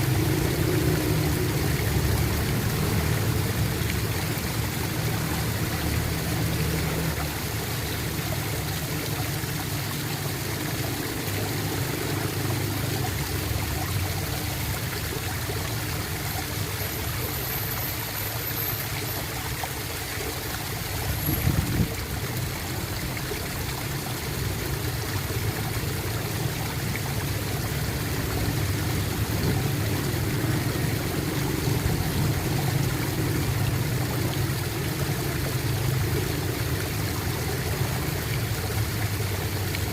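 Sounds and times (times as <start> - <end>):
water gurgling and trickling: 0.0 - 39.9.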